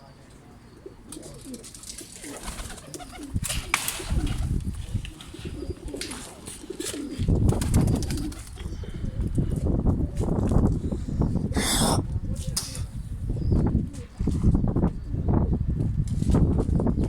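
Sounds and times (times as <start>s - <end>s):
pigeons cooing: 0.6s - 10.2s, 11.3s - 15.6s.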